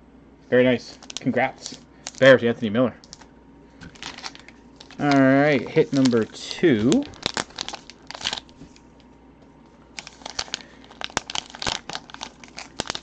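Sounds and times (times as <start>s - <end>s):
plastic wrapper crinkling: 0.9s - 2.4s, 3.0s - 9.1s, 9.9s - 13.0s.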